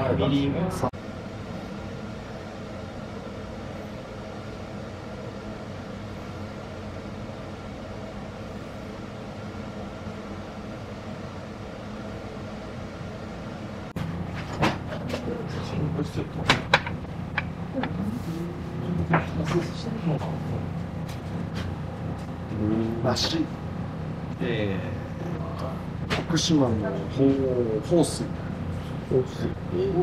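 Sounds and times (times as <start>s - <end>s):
background hum and hiss: 0.0s - 30.0s.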